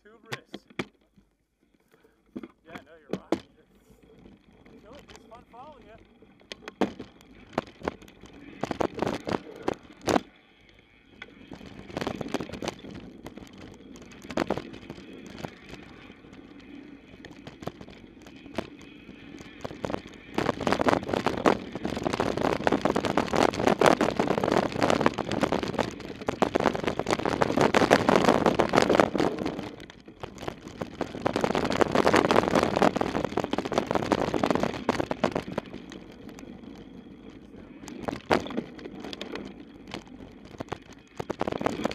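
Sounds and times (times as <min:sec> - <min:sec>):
bike knocking over bumps: 0:00.0 - 0:01.3, 0:02.0 - 0:10.4, 0:11.0 - 0:41.9
bike rattling over rough ground: 0:00.0 - 0:41.9
tyres on dirt: 0:00.0 - 0:41.9.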